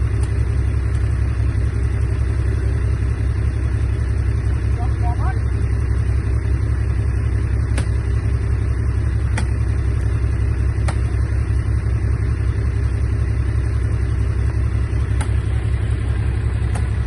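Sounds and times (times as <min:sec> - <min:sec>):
diesel engine deep rumble: 0:00.0 - 0:17.0.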